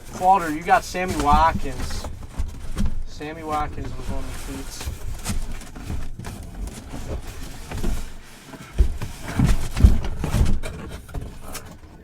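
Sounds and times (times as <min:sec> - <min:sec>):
dull thumps: 0:00.0 - 0:12.0
items moved in cardboard box: 0:00.0 - 0:12.0
rustling: 0:00.0 - 0:12.0.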